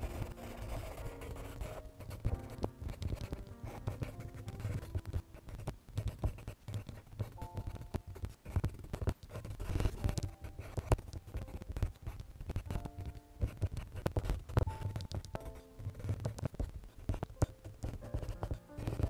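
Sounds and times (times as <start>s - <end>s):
pencil scratching on paper: 0.0s - 19.0s
soft background music: 0.0s - 19.0s.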